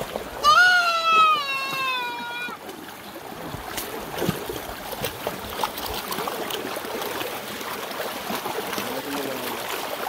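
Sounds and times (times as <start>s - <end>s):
feet splashing in water: 0.0s - 10.0s
moving water: 0.0s - 10.0s.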